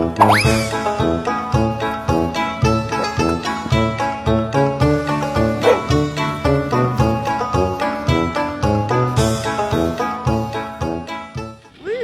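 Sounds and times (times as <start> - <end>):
upbeat background music: 0.0 - 11.7.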